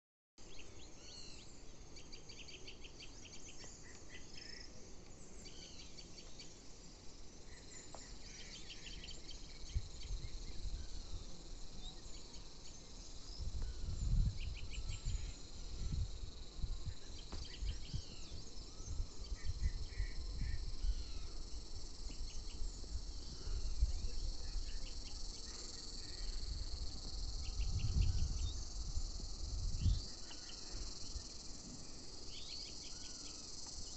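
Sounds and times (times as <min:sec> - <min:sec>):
insects buzzing: 0:00.4 - 0:33.9.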